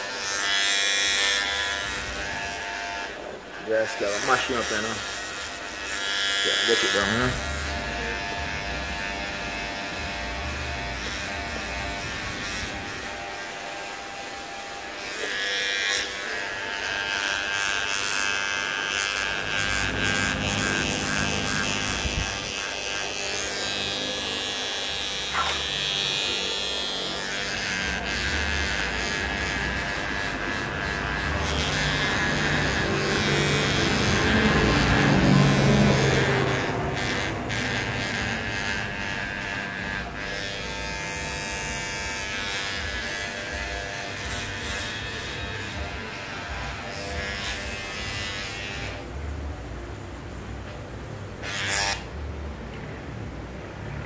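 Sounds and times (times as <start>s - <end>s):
electric hair clippers buzzing: 0.0s - 50.0s, 51.3s - 52.2s.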